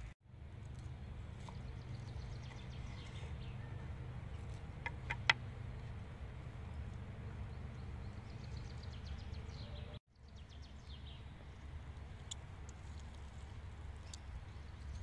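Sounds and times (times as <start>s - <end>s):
low outdoor rumble: 0.0s - 15.0s
songbird chirping: 0.6s - 15.0s.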